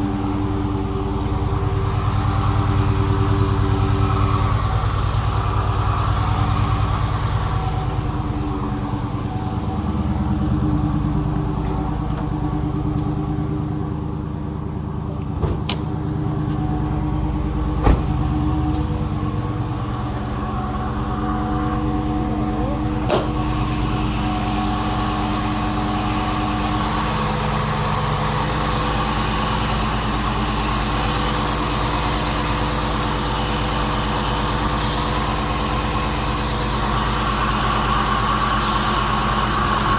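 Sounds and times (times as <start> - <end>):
car engine idling: 0.0 - 39.9
engine ticking: 0.0 - 39.9.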